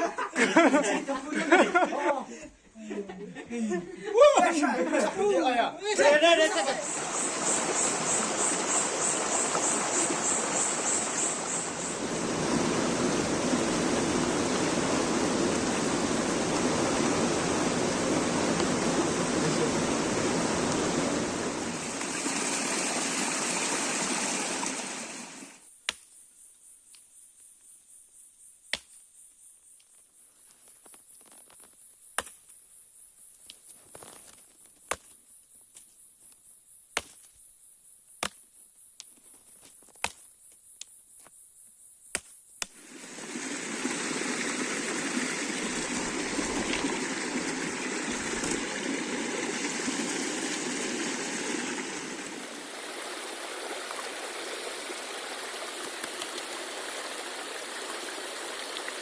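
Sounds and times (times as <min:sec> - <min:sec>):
insect drone: 0:02.8 - 0:59.0.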